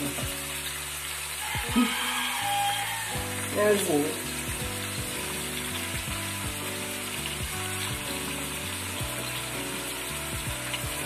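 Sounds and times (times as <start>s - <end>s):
chicken frying sizzle: 0.0s - 11.0s
soft background music: 0.0s - 11.0s.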